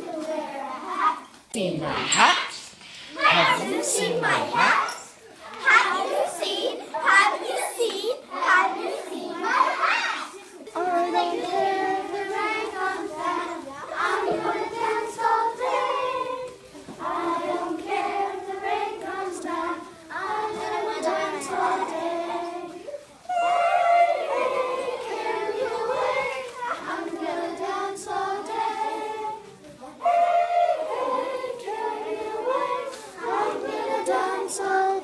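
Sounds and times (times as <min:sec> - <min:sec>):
children singing in unison: 0:00.0 - 0:01.3, 0:02.0 - 0:35.0.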